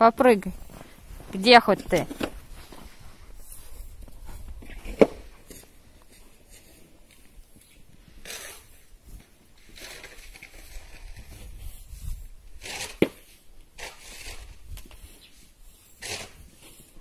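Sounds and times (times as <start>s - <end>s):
footsteps crunching in snow: 0.2s - 17.0s.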